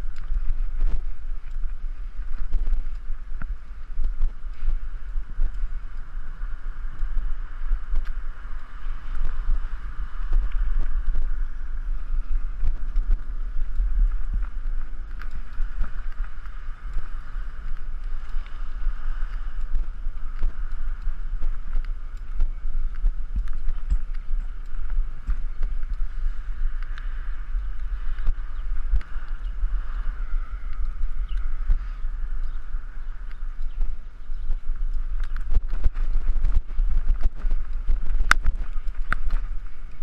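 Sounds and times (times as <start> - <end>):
wind rumble on microphone: 0.0 - 40.0.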